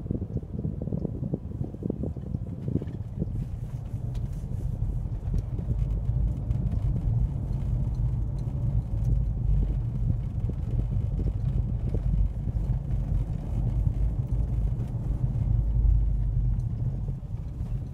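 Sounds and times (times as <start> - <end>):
car cabin engine and tyre rumble: 0.0 - 17.9.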